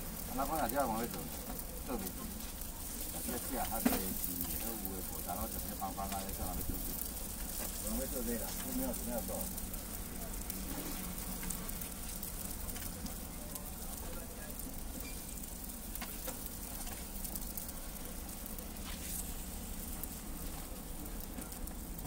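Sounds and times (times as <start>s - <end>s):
griddle frying sizzle: 0.0s - 22.0s.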